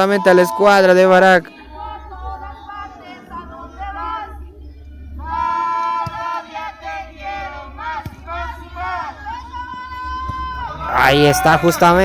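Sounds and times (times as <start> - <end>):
parents chanting a cheer: 0.0 - 4.6, 5.2 - 12.0.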